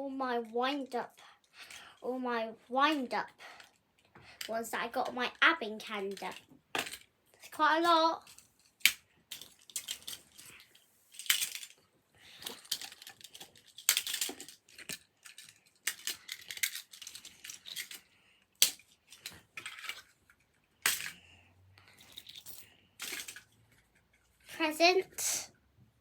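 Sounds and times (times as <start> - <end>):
plastic toys clicking and clattering: 2.8 - 25.4.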